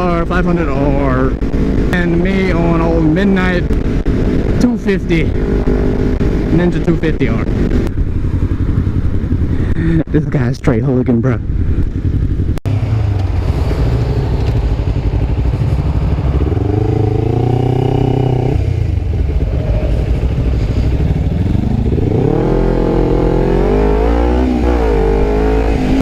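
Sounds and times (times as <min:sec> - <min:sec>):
motorcycle engine running: 0:00.0 - 0:10.5, 0:11.1 - 0:26.0
wind rushing on microphone: 0:00.0 - 0:26.0.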